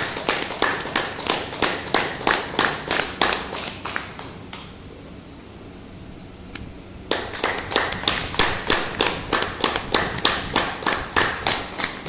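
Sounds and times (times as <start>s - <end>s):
hands clapping: 0.0s - 4.8s, 7.1s - 12.0s.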